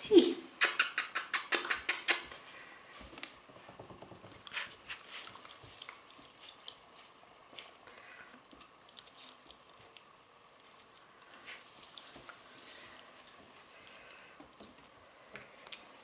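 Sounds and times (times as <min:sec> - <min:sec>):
puppies licking and nibbling: 0:00.6 - 0:16.0.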